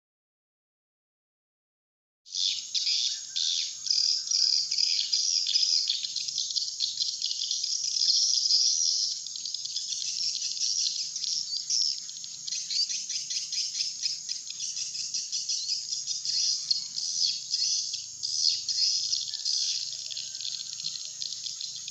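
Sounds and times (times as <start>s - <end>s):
swiftlet flock twittering: 2.4s - 21.9s.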